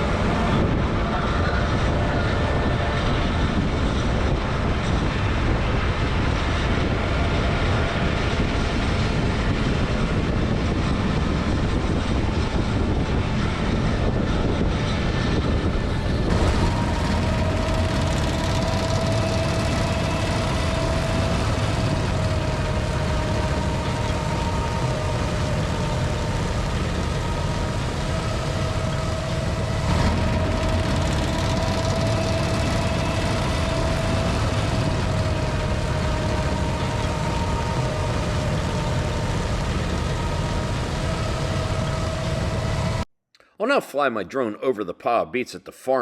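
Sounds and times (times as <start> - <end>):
deep engine rumble: 0.0 - 43.1
steady high whine: 0.0 - 43.5.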